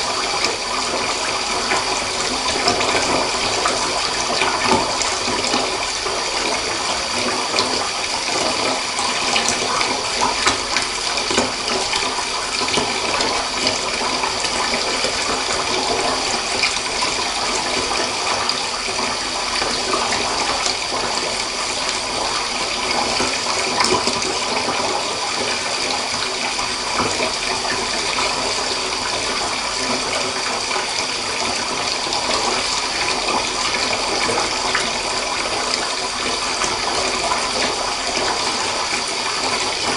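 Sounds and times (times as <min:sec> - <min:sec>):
tap running into a bath: 0:00.0 - 0:39.9.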